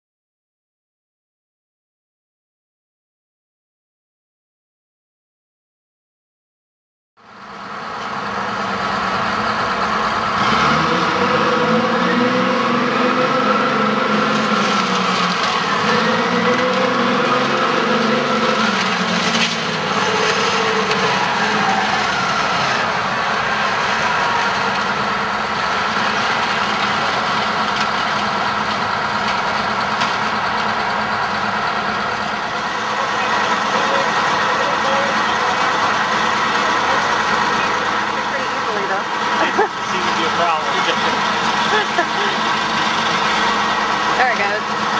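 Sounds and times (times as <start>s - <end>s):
heavy vehicle engines under load: 7.2s - 44.9s.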